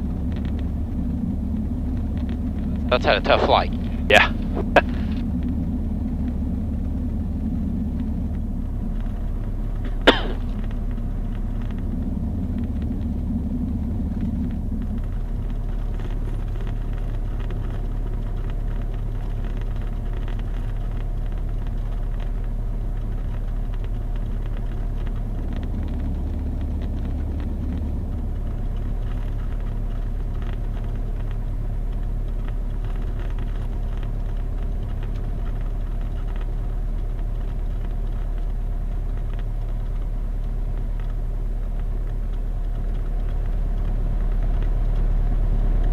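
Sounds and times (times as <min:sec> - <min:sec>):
propeller plane engine drone: 0:00.0 - 0:45.9.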